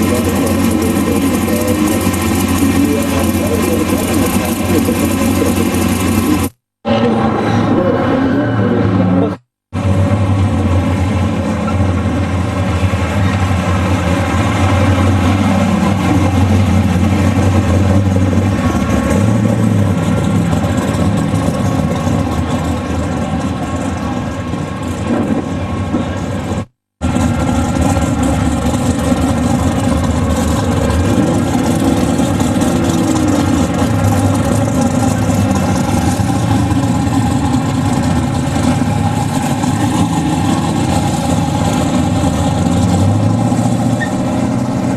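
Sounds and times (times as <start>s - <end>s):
car engine running at low revs: 0.0s - 44.9s.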